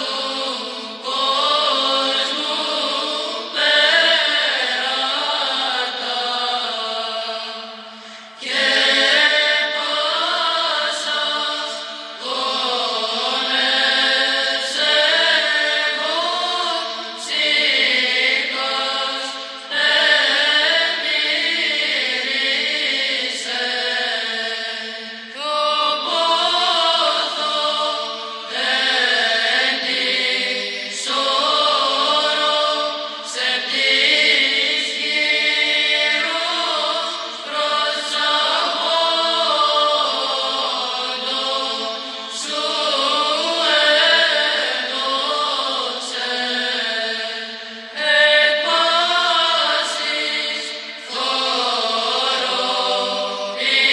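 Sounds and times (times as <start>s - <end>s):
chant singing: 0.0s - 53.9s.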